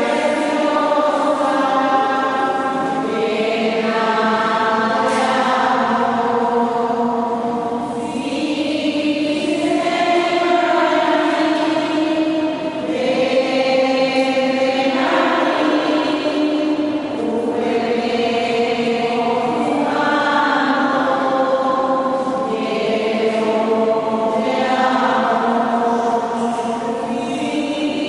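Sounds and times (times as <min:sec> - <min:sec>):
choir holding sustained chords: 0:00.0 - 0:28.0.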